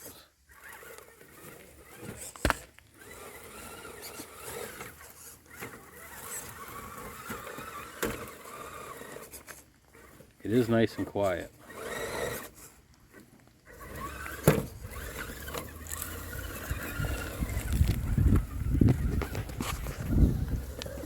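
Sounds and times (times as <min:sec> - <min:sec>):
electric motor and gears whining: 0:00.0 - 0:21.0.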